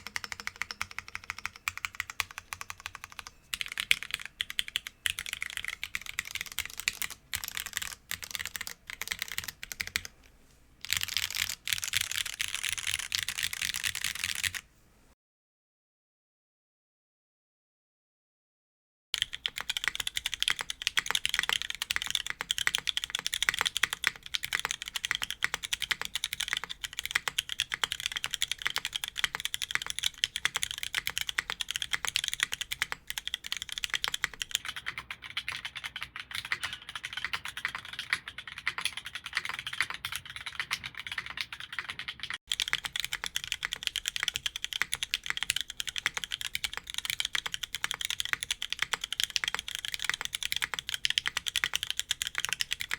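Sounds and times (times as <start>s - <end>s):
mechanical keyboard typing: 0.0s - 10.2s, 10.8s - 14.6s, 19.2s - 52.9s.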